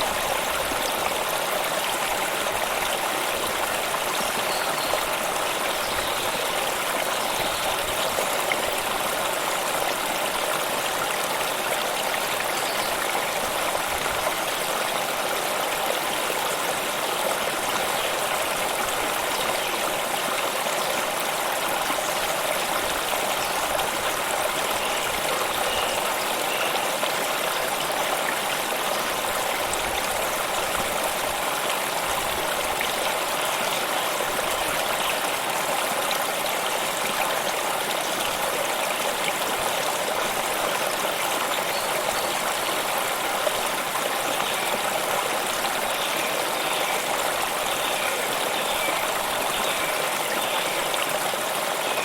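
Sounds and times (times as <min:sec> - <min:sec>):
stream flowing over stones: 0:00.0 - 0:52.0.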